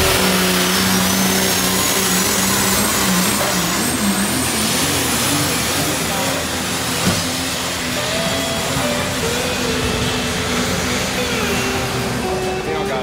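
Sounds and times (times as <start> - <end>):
high whine: 0.0 - 6.6, 7.5 - 13.0
diesel truck engine: 0.0 - 13.0.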